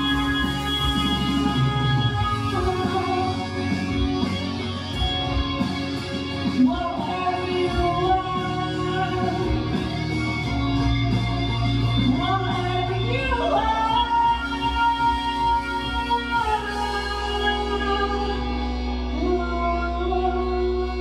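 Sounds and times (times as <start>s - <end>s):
woman singing into microphone: 0.0s - 4.9s, 6.4s - 10.2s, 11.8s - 21.0s
loud amplified backing music: 0.0s - 21.0s.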